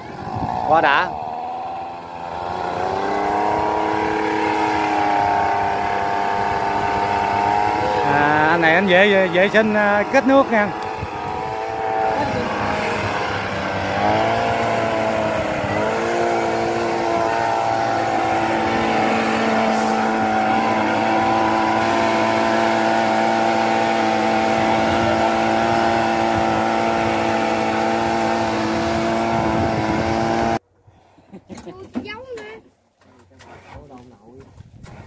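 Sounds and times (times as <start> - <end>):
handheld blower running: 0.0 - 30.6.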